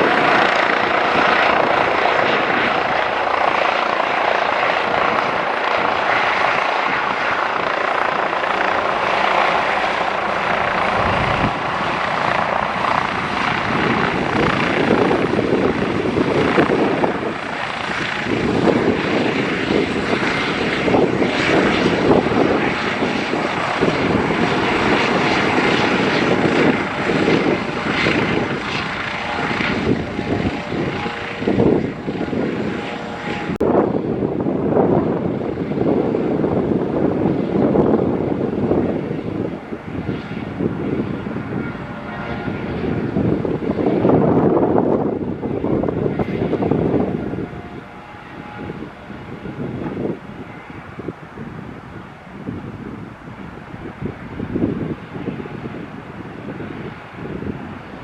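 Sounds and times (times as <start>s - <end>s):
aircraft engines running: 0.0s - 58.0s.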